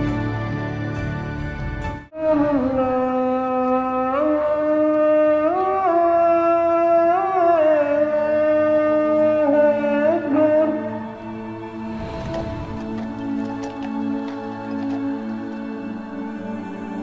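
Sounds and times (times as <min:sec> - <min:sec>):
slow reedy wind instrument melody: 0:00.0 - 0:17.0.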